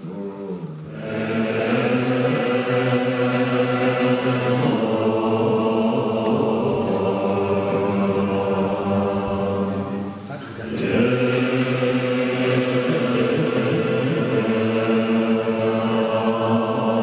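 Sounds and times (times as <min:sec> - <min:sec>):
monks chanting in unison: 0:00.0 - 0:17.0.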